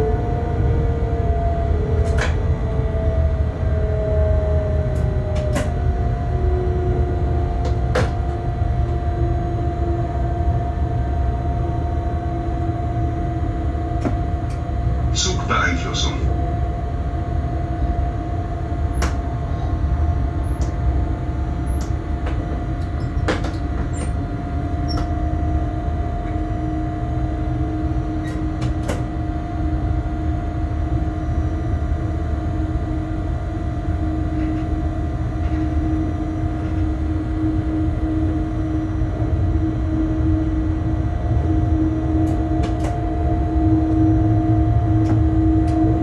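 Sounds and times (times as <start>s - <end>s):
steady humming tones: 0.0s - 46.0s
train rumbling on track: 0.0s - 46.0s.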